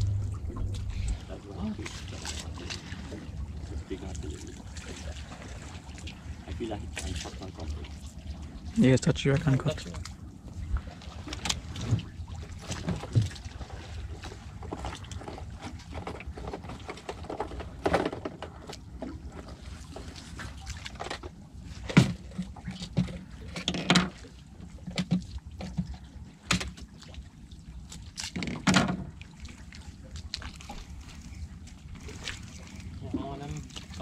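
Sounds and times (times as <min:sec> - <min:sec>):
water lapping against boat hull: 0:00.0 - 0:34.0
water slaps against hull: 0:00.0 - 0:34.0.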